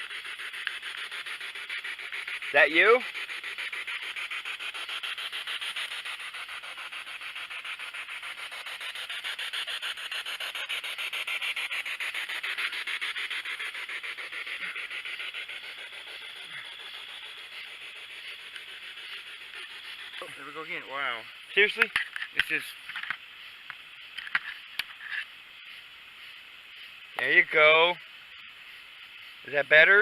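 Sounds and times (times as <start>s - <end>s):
stuttering radio static hiss: 0.0s - 30.0s.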